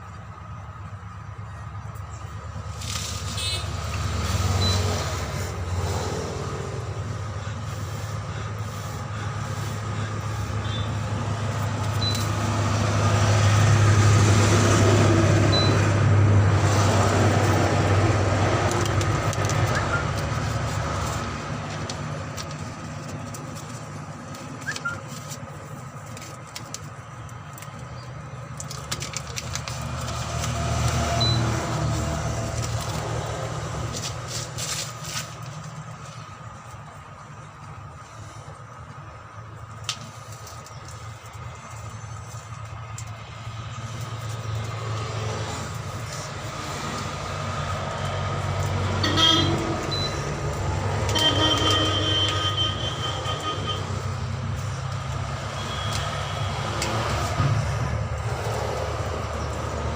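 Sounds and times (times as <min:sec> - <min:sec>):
heavy vehicle engine drone: 0:00.0 - 0:59.9.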